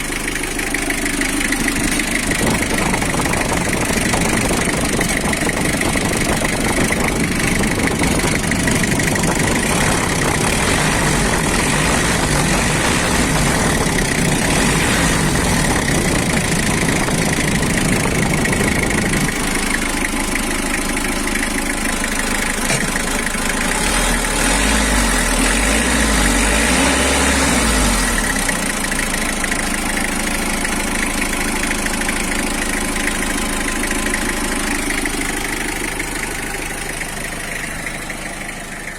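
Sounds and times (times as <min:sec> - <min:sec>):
minibus engine idling: 0:00.0 - 0:24.4, 0:27.8 - 0:38.9.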